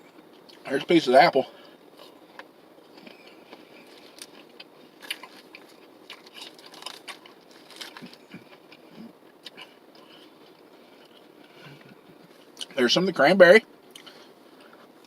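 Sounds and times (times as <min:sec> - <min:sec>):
person chewing crunchy food: 0:01.8 - 0:12.8, 0:13.9 - 0:15.0.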